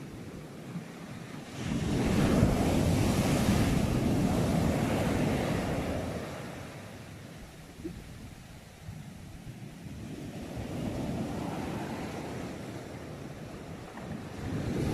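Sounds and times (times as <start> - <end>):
sea waves breaking: 0.0 - 14.9.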